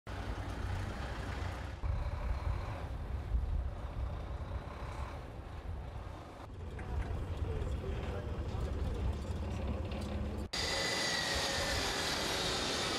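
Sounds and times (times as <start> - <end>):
truck engines rumbling: 0.1 - 10.6.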